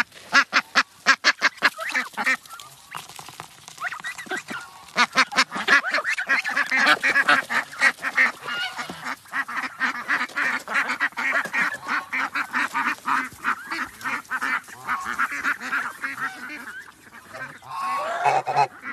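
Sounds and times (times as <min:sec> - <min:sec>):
ducks quacking: 0:00.0 - 0:18.9.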